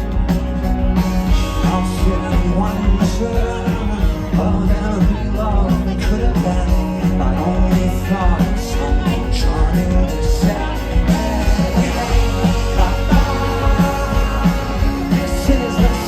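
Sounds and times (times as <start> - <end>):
drum beat: 0.0 - 16.0
rock band playing loudly: 0.0 - 16.0
person singing: 1.3 - 16.0.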